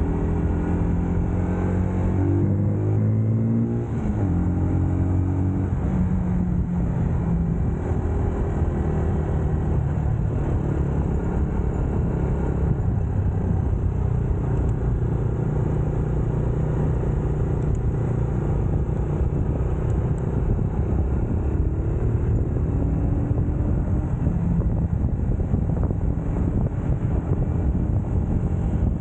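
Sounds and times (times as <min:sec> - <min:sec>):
motorcycle engine running: 0:05.6 - 0:29.0.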